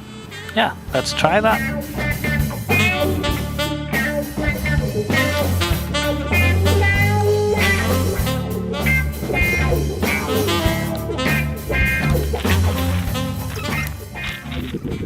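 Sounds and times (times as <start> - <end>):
blues-rock guitar music: 0.3 - 15.0.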